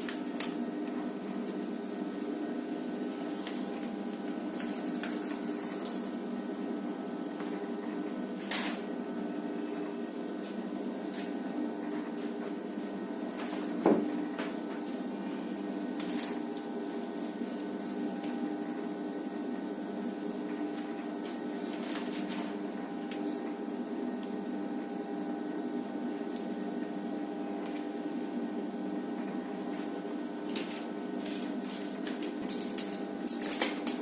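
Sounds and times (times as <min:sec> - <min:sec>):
band sealer motor and fan hum: 0:00.0 - 0:34.0.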